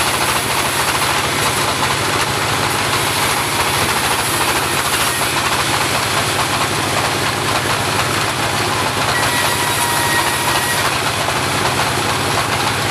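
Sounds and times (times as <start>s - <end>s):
bandsaw running: 0.0s - 12.9s.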